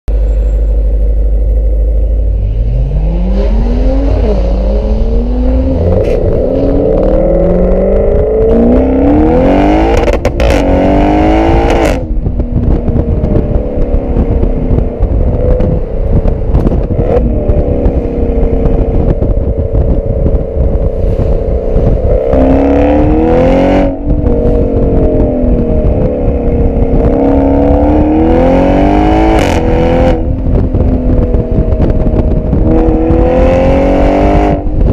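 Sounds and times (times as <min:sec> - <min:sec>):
car engine accelerating: 0:00.1 - 0:34.9
exhaust cracks: 0:00.2 - 0:34.9.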